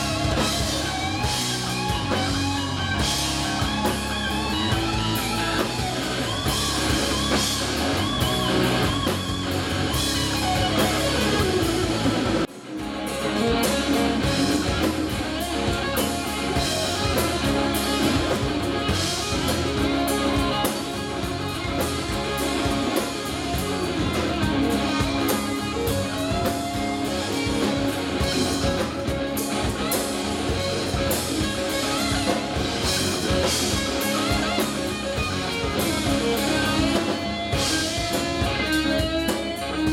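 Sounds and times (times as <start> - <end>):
electric guitar lead: 0.0 - 39.9
rock band playing live: 0.0 - 39.9.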